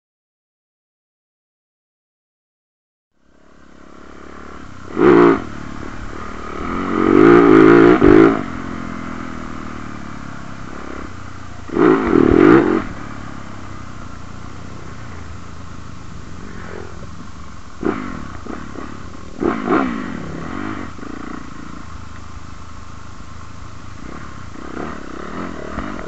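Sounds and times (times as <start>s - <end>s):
dirt bike engine running: 3.2s - 26.0s
dirt bike throttle bursts: 3.3s - 26.0s.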